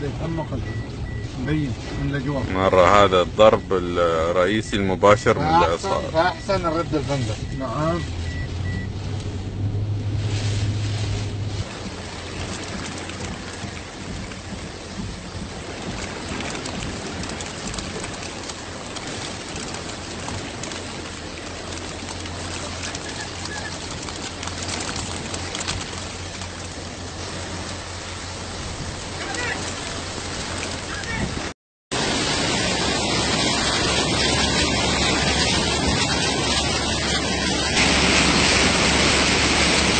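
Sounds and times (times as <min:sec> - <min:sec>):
low hum: 0:00.0 - 0:29.2, 0:32.3 - 0:39.9
heavy rain falling: 0:00.0 - 0:39.9.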